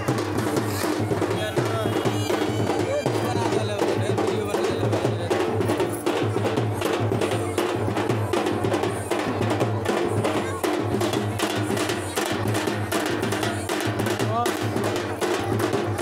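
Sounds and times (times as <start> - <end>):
music with fast drum beat: 0.0 - 16.0.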